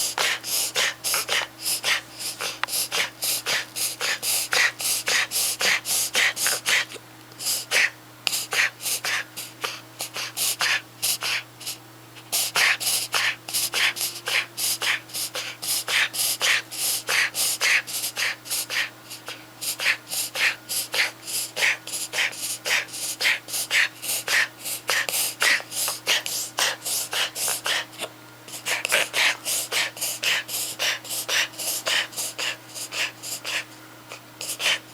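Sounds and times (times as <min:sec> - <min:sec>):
puppy gasping breaths: 0:00.0 - 0:34.9.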